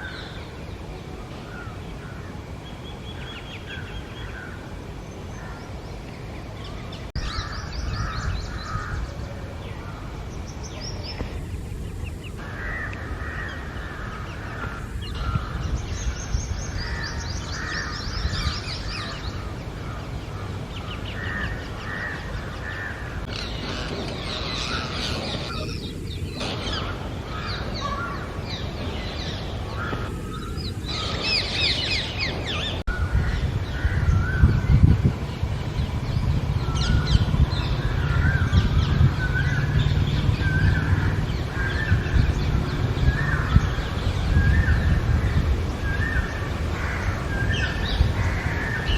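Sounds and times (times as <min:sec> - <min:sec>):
parakeets calling: 0:01.5 - 0:34.9, 0:35.8 - 0:48.9.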